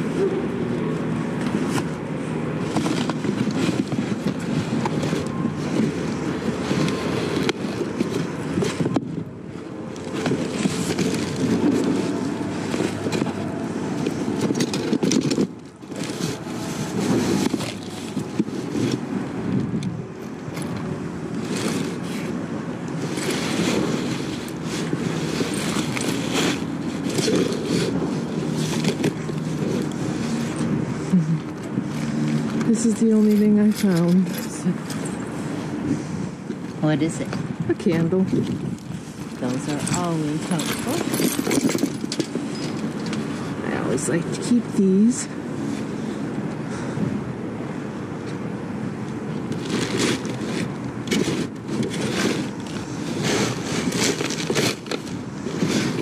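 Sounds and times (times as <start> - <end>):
trash rustling and scraping: 0.0 - 47.2, 47.8 - 56.0
vehicle engine humming: 0.0 - 56.0.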